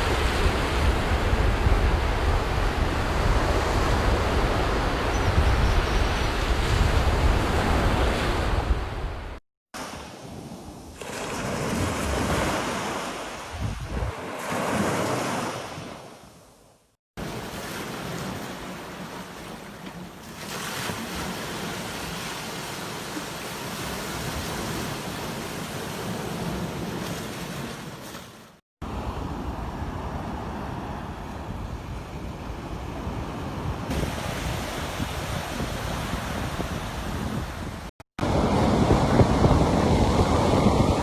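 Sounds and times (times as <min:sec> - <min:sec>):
sea waves breaking on a beach: 0:00.0 - 0:16.5, 0:17.2 - 0:41.0.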